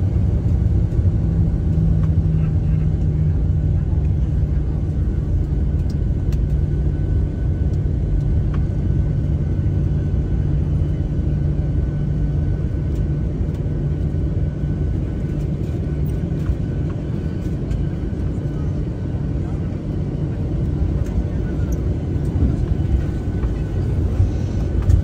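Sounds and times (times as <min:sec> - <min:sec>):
airplane cabin engine noise: 0:00.0 - 0:25.0.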